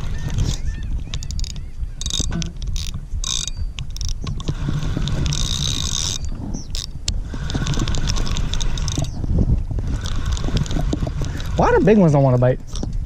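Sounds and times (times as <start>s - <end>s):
fishing reel clicking and ratcheting: 0.0s - 9.2s, 9.8s - 12.9s.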